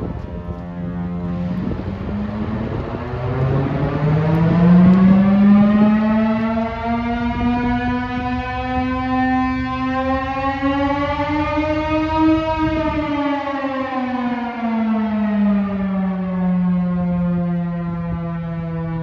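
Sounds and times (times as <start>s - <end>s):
air raid siren wailing: 0.0s - 19.0s.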